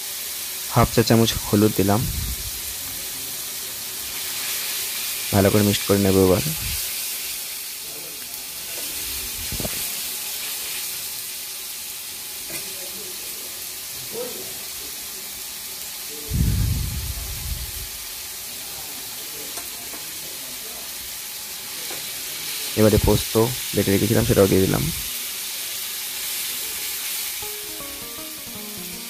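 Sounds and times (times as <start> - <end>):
masala sizzling in hot oil: 0.0 - 29.0.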